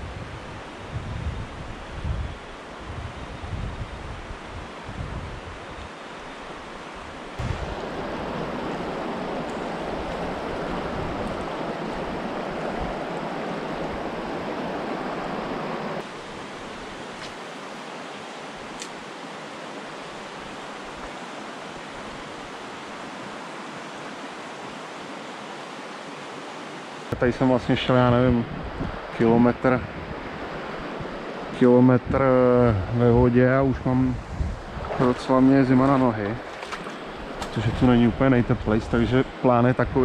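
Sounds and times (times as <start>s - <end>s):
river water flowing: 1.6s - 27.6s, 28.6s - 31.8s, 33.9s - 39.7s.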